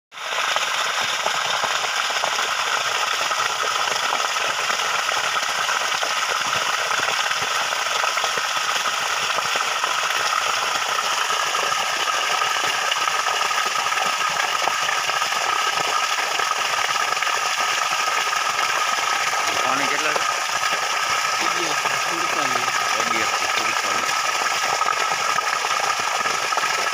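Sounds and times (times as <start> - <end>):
water gushing onto ground: 0.1 - 26.9.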